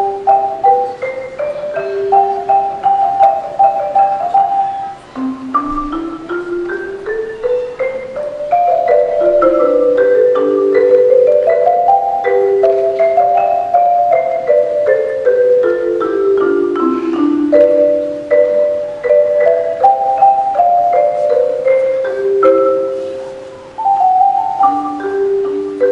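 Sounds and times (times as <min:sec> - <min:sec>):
marimba playing: 0:00.0 - 0:25.9.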